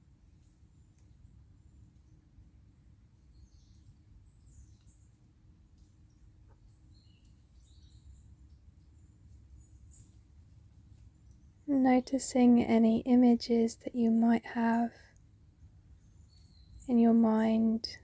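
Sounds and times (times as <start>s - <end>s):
small birds chirping: 0.4s - 18.0s.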